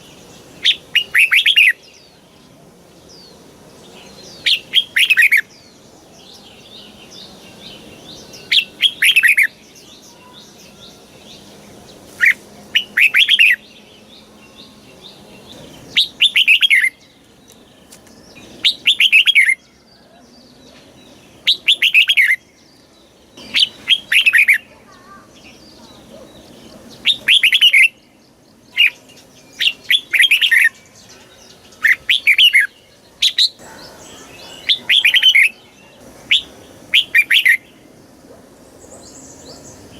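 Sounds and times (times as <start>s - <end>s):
bird whistled song: 0.0s - 3.4s, 4.0s - 11.6s, 12.2s - 37.8s.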